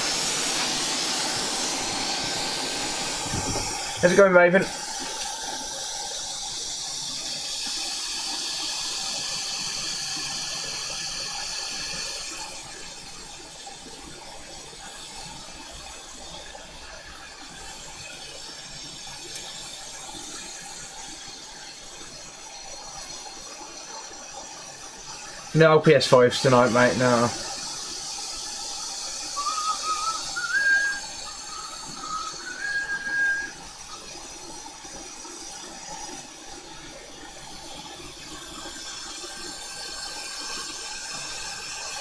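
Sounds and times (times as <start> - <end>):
hot air blowing hiss: 0.0 - 42.0.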